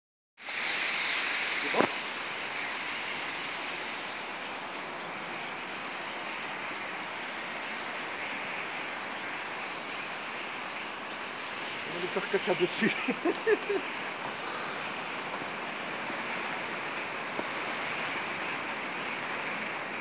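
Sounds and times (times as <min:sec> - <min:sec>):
flock of starlings chattering: 0:00.4 - 0:20.0
bird wing noise: 0:00.5 - 0:20.0.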